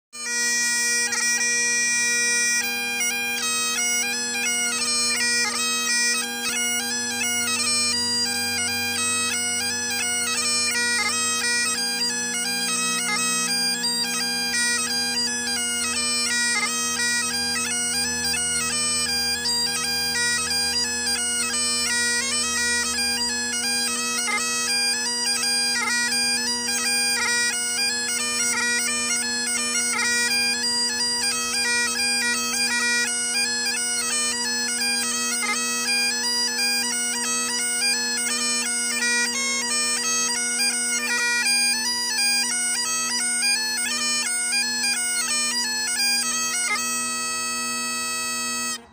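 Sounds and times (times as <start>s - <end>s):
bagpipe playing a tune: 0.2s - 48.9s.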